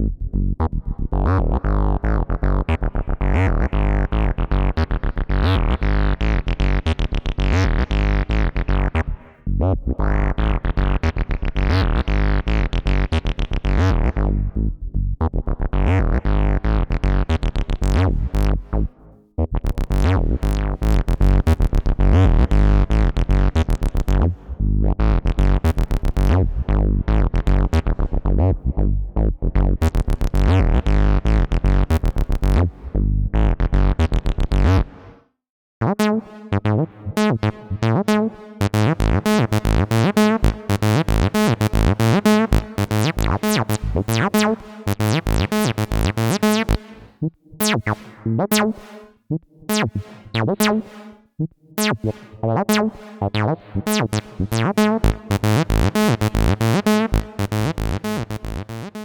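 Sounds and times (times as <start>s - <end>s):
resonant acid bassline synth: 0.0s - 35.1s, 35.8s - 59.0s.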